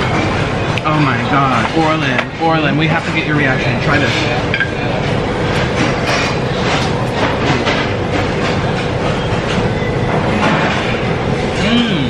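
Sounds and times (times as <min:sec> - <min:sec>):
conveyor belt rattling: 0:00.0 - 0:12.0.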